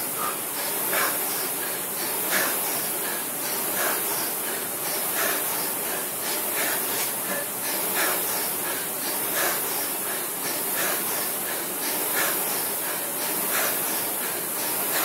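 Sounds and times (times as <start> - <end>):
rowing machine flywheel whoosh: 0.0 - 15.0.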